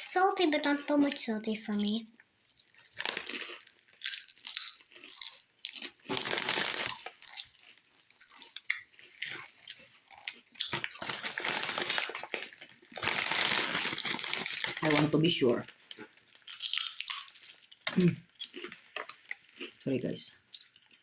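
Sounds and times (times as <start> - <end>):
person chewing potato chips: 2.4 - 21.0.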